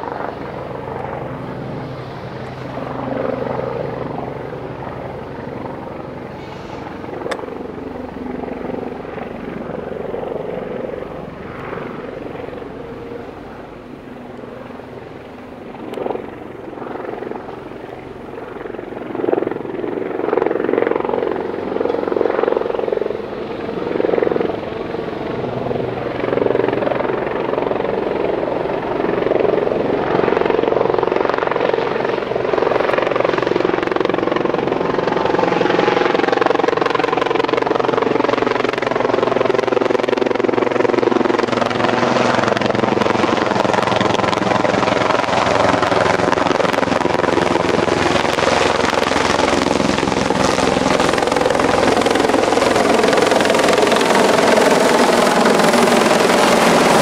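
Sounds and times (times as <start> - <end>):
helicopter flying overhead: 0.0 - 57.0.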